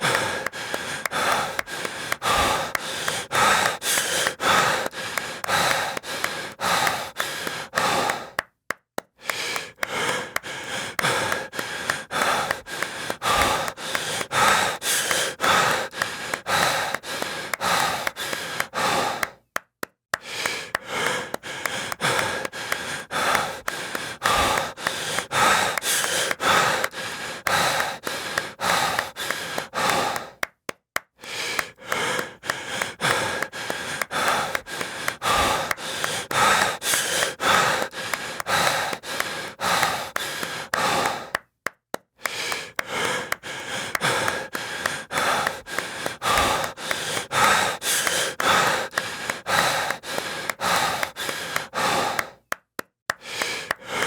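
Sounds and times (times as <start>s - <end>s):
hand claps: 0.0s - 54.0s
heavy breathing with gasps: 0.0s - 54.0s.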